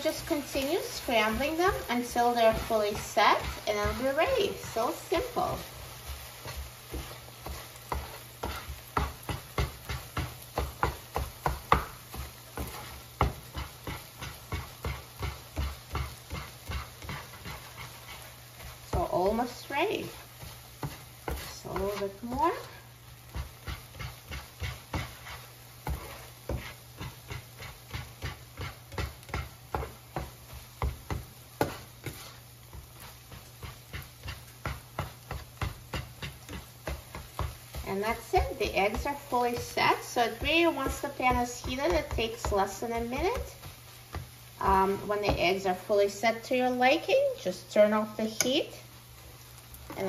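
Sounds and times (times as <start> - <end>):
spatula scraping frying pan: 0.0 - 46.5.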